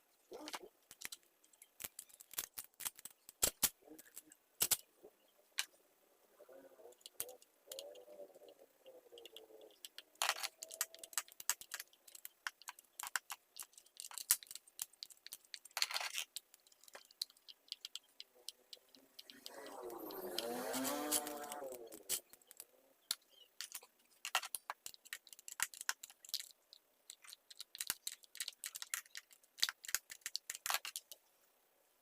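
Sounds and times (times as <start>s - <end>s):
small clicks taps and scrapes: 0.3s - 4.9s, 6.9s - 31.2s.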